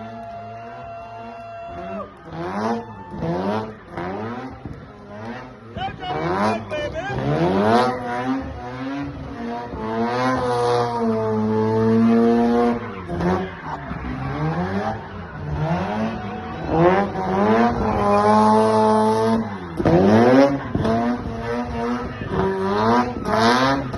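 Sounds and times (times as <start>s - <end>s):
rotary engine revving hard: 1.2s - 23.9s.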